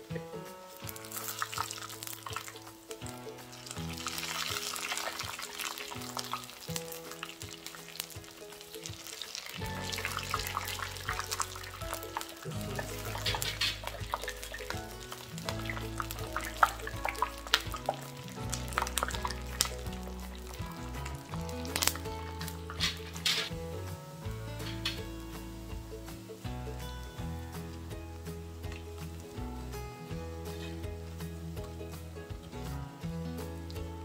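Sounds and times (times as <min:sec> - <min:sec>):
tempura sizzling in hot oil: 0:00.0 - 0:32.8
background music with bass: 0:00.0 - 0:34.0.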